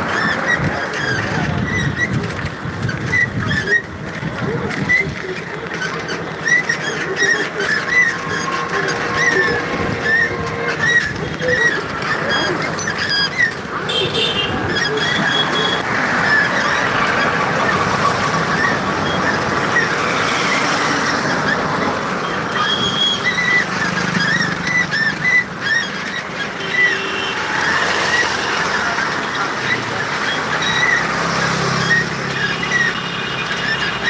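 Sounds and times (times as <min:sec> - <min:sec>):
short high squeaks: 0:00.0 - 0:34.0
traffic and road noise: 0:00.0 - 0:34.0.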